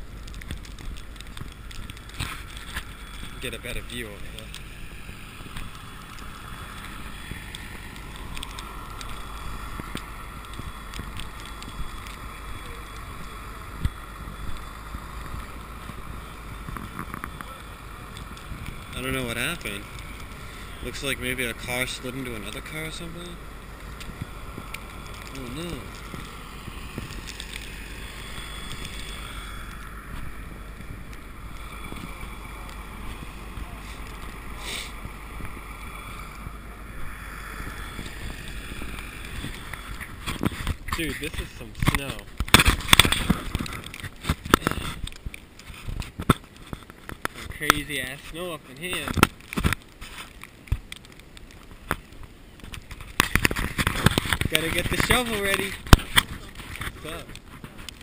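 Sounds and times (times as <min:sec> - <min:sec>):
blizzard wind on microphone: 0:00.0 - 0:58.0
faint clicks: 0:00.0 - 0:58.0.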